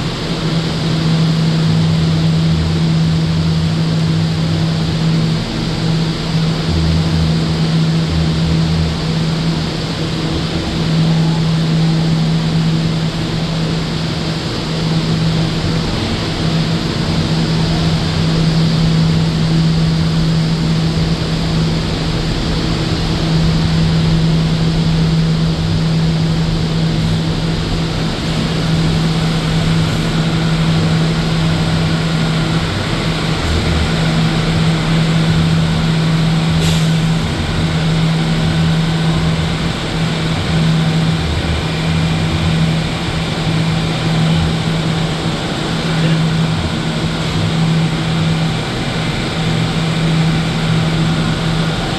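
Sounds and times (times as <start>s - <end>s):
constant low hum: 0.0s - 51.9s.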